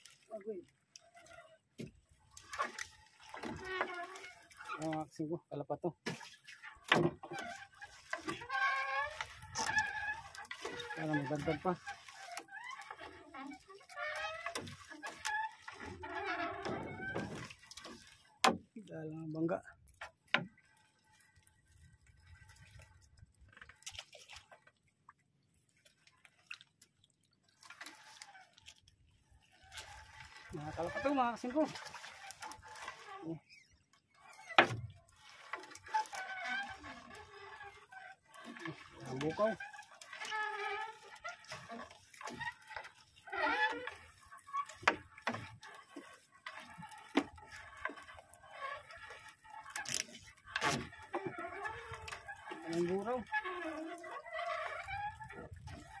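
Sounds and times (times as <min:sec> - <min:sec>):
wet net rustling and crackling: 0:00.0 - 0:05.2, 0:06.2 - 0:56.0
water dripping and splashing: 0:00.0 - 0:05.4, 0:06.0 - 0:56.0.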